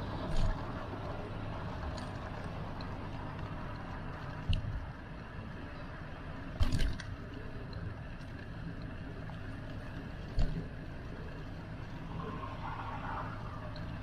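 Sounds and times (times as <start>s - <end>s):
bicycle tyre rumble: 0.0s - 14.0s.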